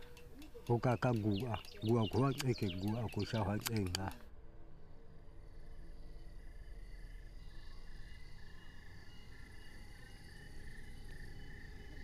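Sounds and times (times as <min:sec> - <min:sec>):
crickets chirping: 0:00.0 - 0:12.0
faint low hum: 0:00.0 - 0:12.0.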